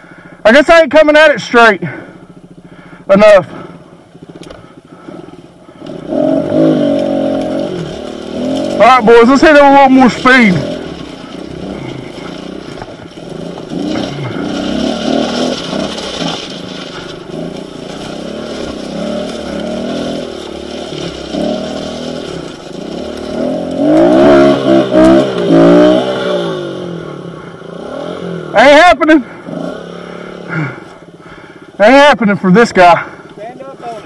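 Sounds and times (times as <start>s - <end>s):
dirt bike engine revving: 0.5s - 34.0s.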